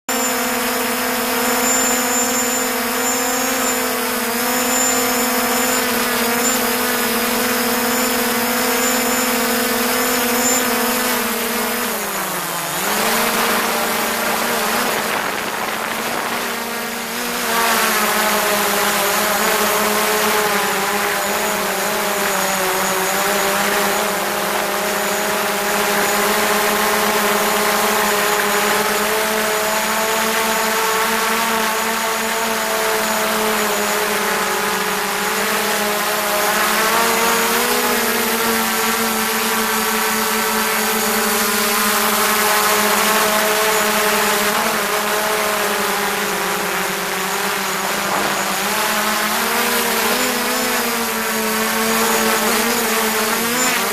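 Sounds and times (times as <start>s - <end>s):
drone propellers buzzing whine: 0.0s - 53.9s.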